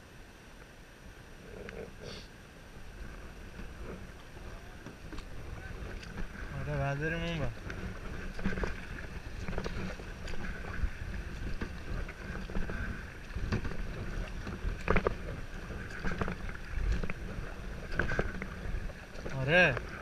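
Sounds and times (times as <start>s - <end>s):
paddle water splashes: 0.6s - 20.0s
wind rumble on microphone: 1.1s - 20.0s.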